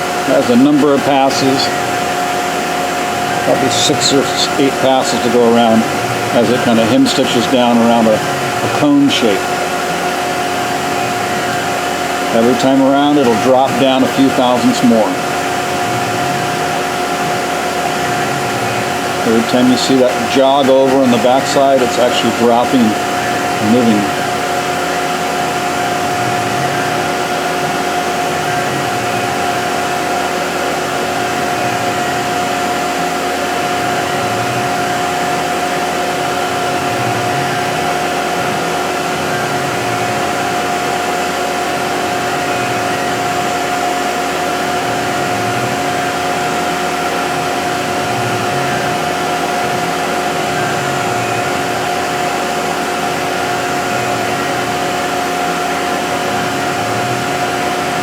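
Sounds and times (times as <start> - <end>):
milling machine spindle whine: 0.0 - 58.0.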